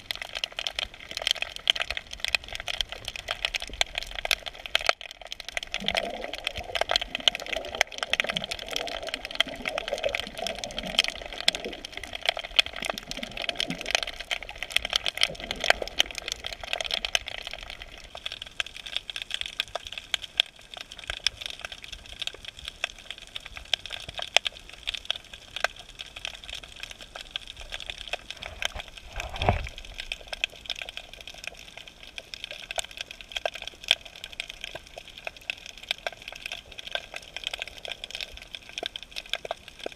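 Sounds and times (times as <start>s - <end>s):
snapping shrimp crackling underwater: 0.0s - 39.9s.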